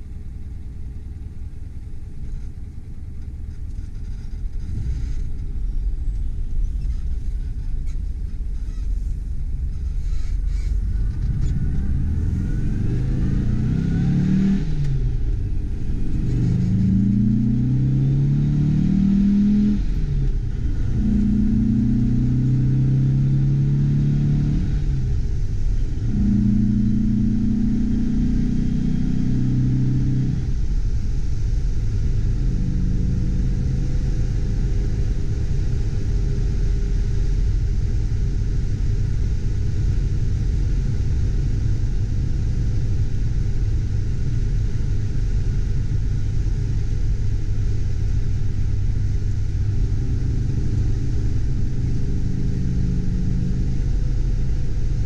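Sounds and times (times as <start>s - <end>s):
road and tyre rumble: 0.0s - 55.0s
car engine pulling: 1.7s - 55.0s.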